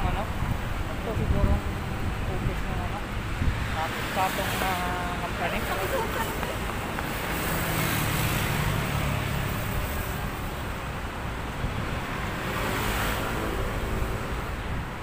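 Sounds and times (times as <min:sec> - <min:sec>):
low traffic rumble: 0:00.0 - 0:15.0
passing vehicles: 0:00.0 - 0:15.0.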